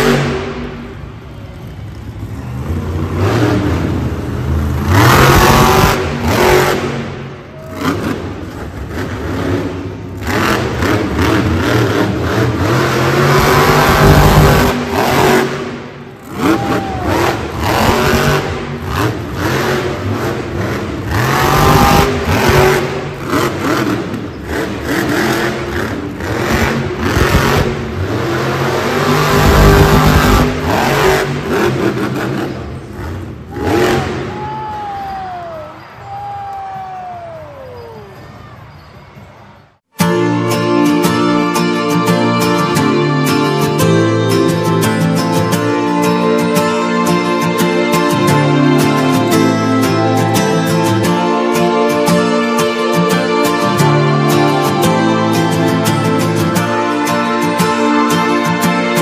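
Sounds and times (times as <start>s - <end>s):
monster truck engine revving: 0.0s - 35.1s, 40.2s - 59.0s.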